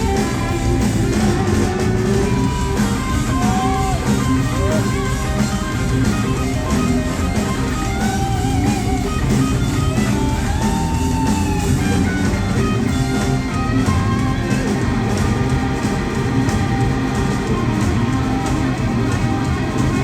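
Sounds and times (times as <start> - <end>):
electric guitar lead: 0.0 - 20.0
live rock band: 0.0 - 20.0.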